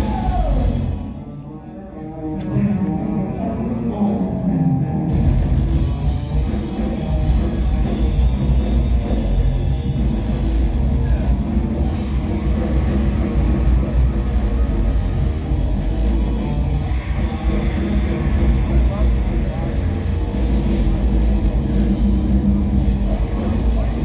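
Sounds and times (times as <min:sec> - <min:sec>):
rock band playing live: 0:00.0 - 0:01.3, 0:02.2 - 0:24.0.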